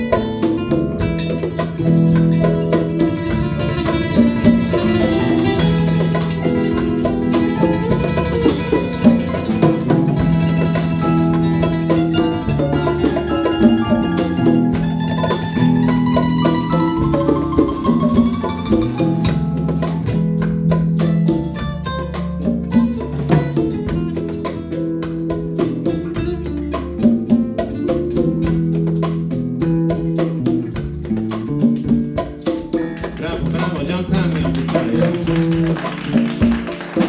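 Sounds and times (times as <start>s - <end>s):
congas: 0.0s - 37.0s
live band playing: 0.0s - 37.0s.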